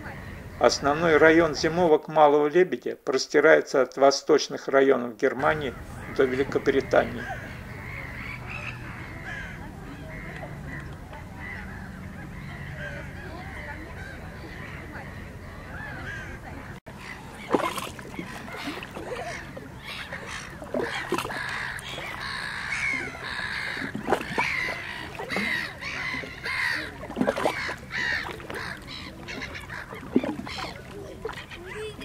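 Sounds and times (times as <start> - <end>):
flock of swans calling: 5.4 - 32.0.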